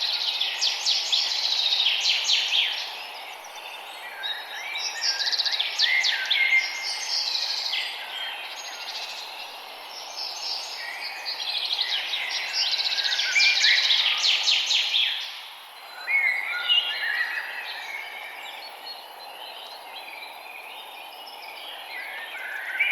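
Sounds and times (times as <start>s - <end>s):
background hiss: 0.0s - 22.9s
songbirds singing: 0.0s - 22.9s.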